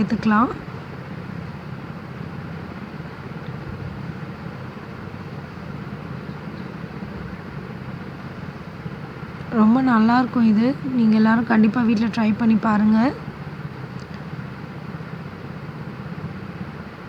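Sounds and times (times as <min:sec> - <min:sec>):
hot oil rumbling and hissing: 0:00.0 - 0:17.0.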